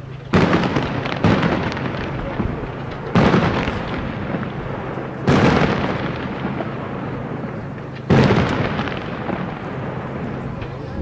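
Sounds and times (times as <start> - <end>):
fireworks shells bursting: 0.0 - 10.9
rolling echo and crackle: 0.0 - 11.0.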